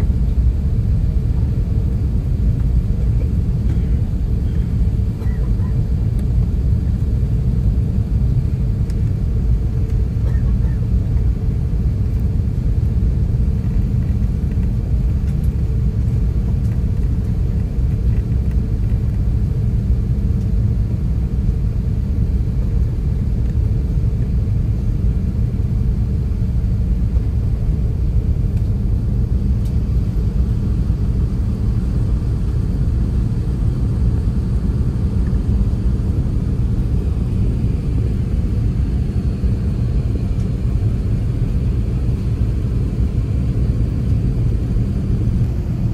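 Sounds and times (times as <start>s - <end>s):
aircraft cabin engine rumble: 0.0s - 45.9s.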